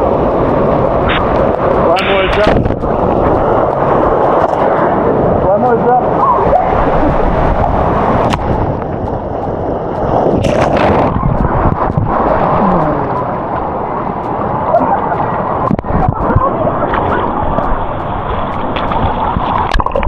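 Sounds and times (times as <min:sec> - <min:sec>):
rushing water on water slide: 0:00.0 - 0:20.0.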